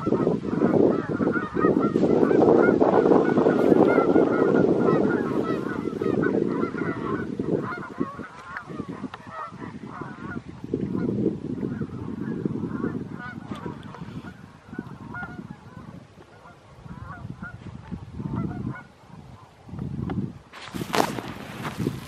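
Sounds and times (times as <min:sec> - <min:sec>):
geese honking: 0:00.0 - 0:19.5.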